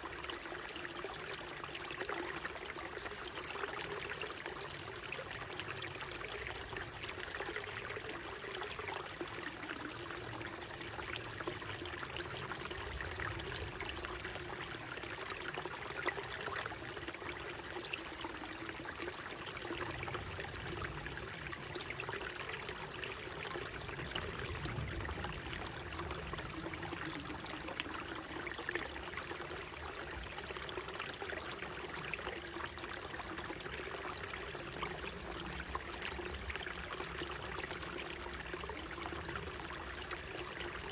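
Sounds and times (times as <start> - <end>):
mountain stream flowing: 0.0 - 40.9
water trickles and splashes: 0.0 - 40.9.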